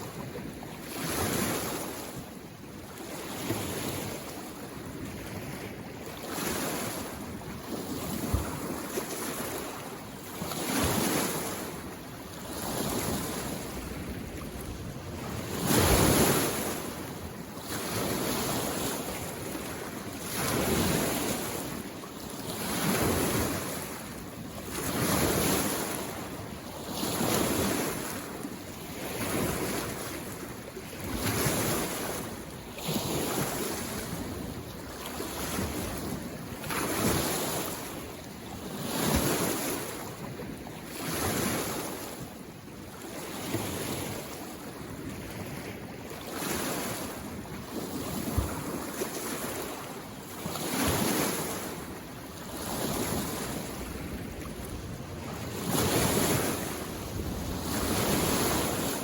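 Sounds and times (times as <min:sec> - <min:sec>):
small waves washing on shore: 0:00.0 - 0:59.0.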